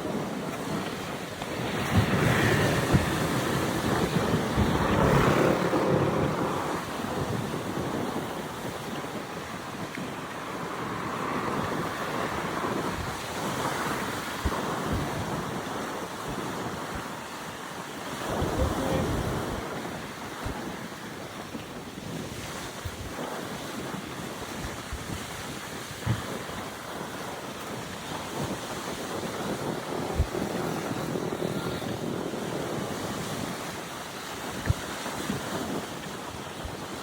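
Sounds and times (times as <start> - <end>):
surf washing onto beach: 0.0 - 37.0
wind buffeting microphone: 0.0 - 37.0.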